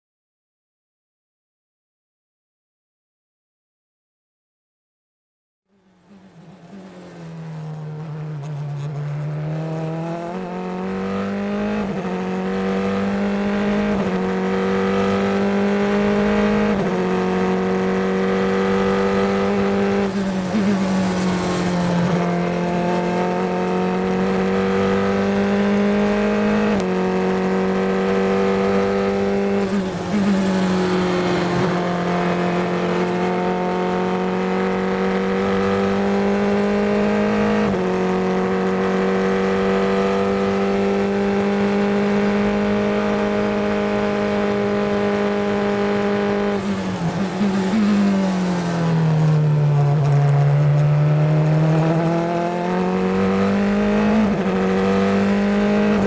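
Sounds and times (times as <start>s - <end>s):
racing car engine at full throttle: 5.7s - 56.0s.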